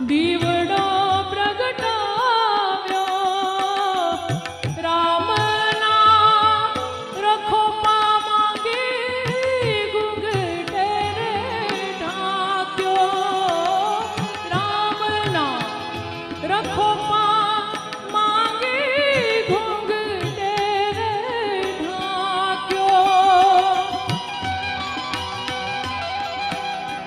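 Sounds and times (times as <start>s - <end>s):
woman singing folk song: 0.0s - 24.3s
harmonium: 0.0s - 27.0s
tabla strokes: 0.0s - 27.0s.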